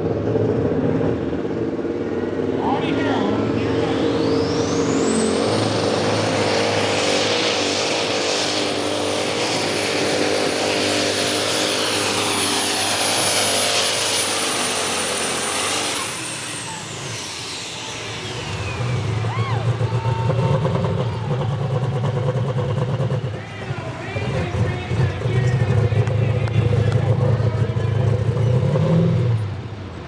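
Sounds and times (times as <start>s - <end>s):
turbo whine: 3.2s - 28.9s
pulling tractor diesel engine: 3.8s - 30.0s.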